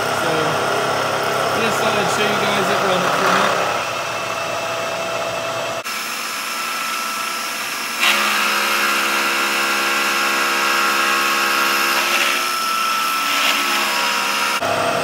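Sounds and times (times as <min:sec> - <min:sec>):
milling machine cutting metal: 0:00.0 - 0:15.0.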